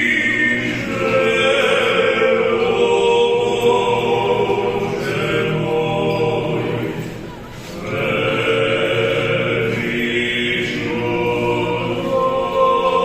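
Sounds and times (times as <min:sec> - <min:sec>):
choir singing in harmony: 0:00.0 - 0:13.0.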